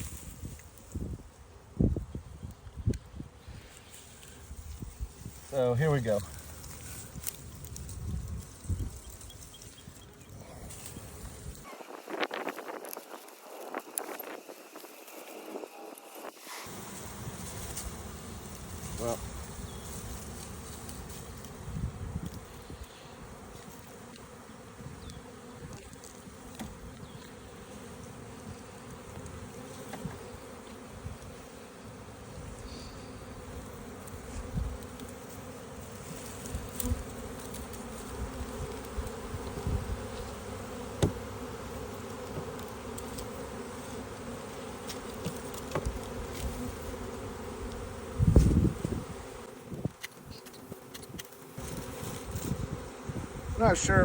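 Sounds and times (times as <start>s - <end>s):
bee swarm buzzing: 0.0s - 54.0s.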